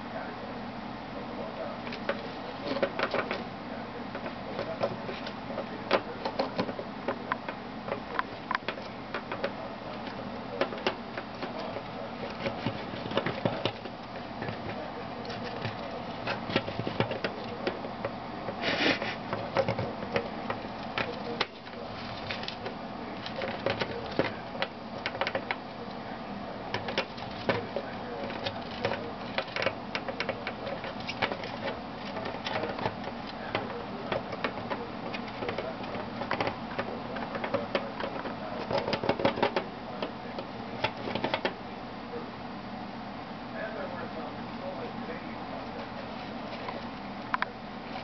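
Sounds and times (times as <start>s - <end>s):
hamster gnawing on plastic: 1.4s - 41.7s.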